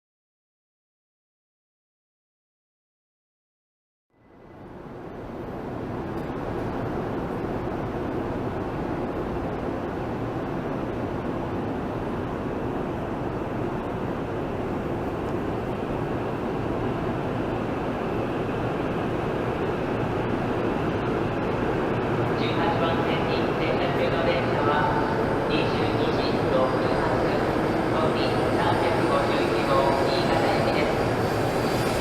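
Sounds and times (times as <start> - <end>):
train rumbling past: 4.2 - 32.0.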